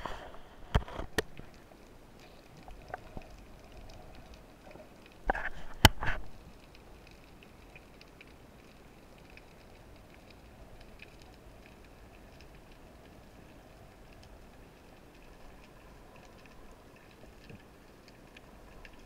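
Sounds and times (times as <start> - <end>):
small ticks: 1.1 - 19.0.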